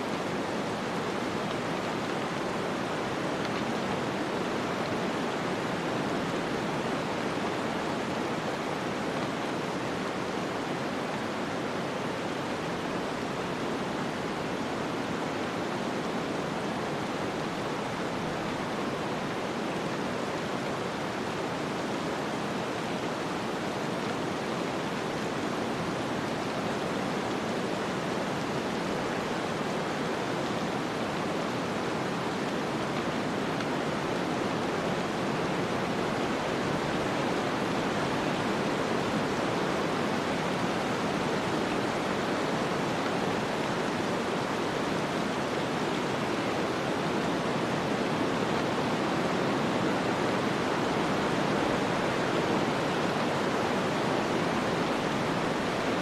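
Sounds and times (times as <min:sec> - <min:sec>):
snowstorm wind hiss: 0:00.0 - 0:56.0.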